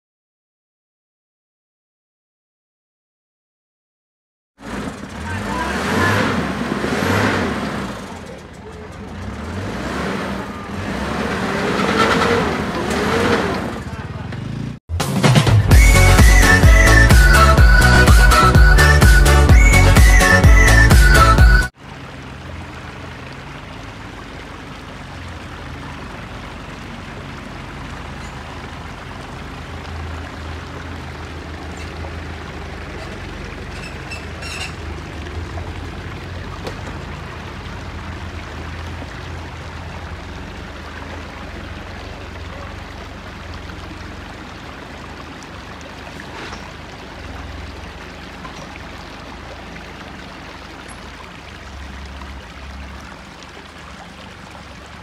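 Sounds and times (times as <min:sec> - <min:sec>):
engine rumbling at low revs: 0:04.6 - 0:55.0
stream flowing: 0:04.6 - 0:55.0.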